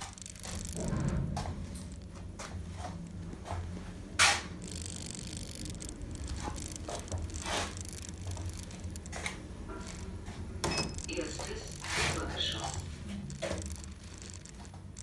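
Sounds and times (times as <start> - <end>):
elevator car hum: 0.0 - 15.0.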